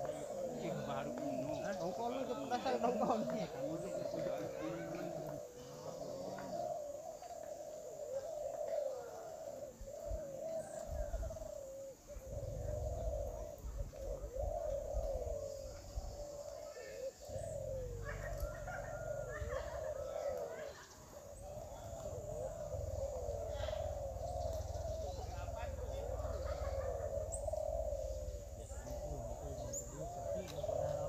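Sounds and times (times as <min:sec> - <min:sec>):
doves cooing: 0:00.0 - 0:31.0.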